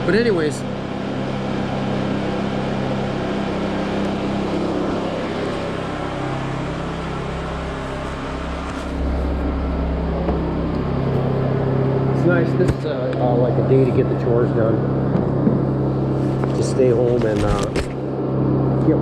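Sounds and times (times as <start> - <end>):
portable generators running: 0.0 - 19.0.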